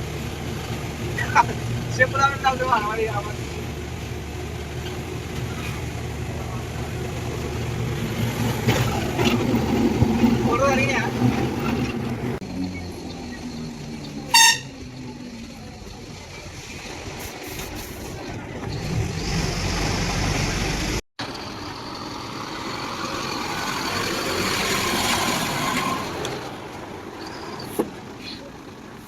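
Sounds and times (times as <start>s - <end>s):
diesel excavator engine: 0.0s - 29.0s.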